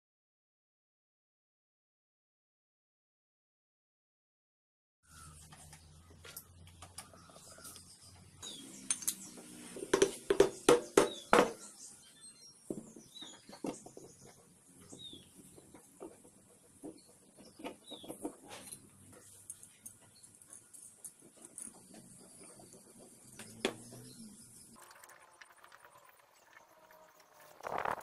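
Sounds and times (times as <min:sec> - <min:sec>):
birds chirping: 0:05.0 - 0:27.9.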